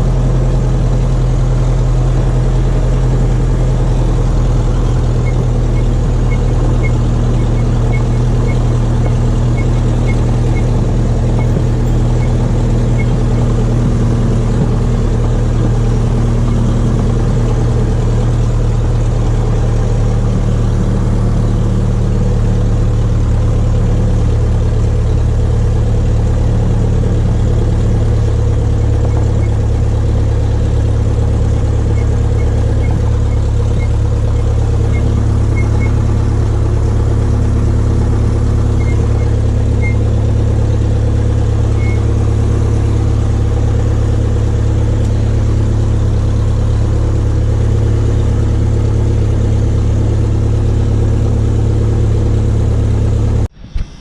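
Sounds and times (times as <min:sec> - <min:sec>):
piston aircraft engine running: 0:00.0 - 0:54.0.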